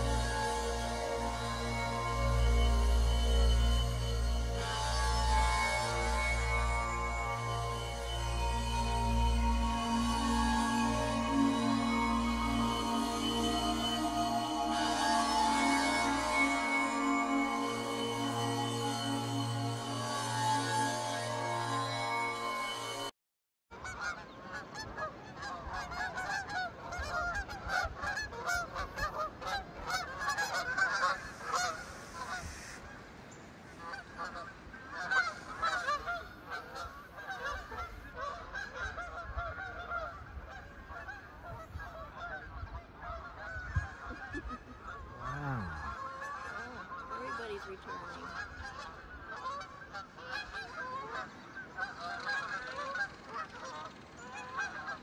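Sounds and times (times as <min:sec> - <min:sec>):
geese honking: 0:00.0 - 0:23.1, 0:23.8 - 0:55.0.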